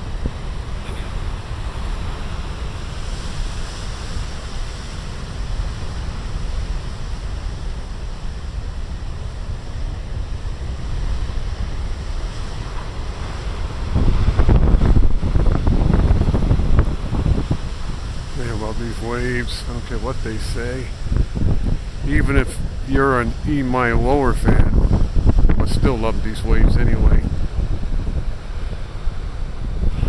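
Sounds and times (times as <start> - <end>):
ocean waves breaking: 0.0 - 30.0
wind buffeting microphone: 0.0 - 30.0.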